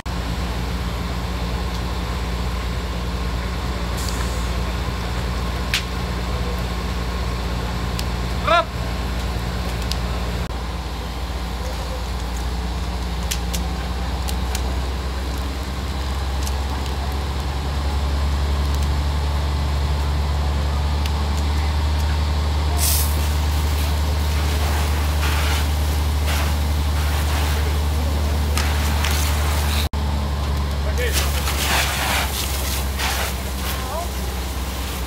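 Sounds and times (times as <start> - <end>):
fire hose water hissing: 0.0 - 29.9, 30.7 - 35.0
fire crackling: 0.0 - 35.0
fire engine pump drone: 0.0 - 35.0.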